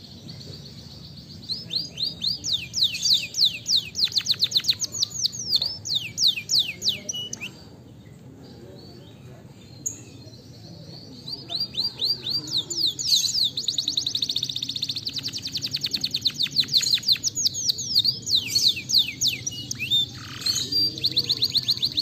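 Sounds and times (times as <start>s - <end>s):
canary singing: 0.0s - 7.7s, 9.8s - 22.0s.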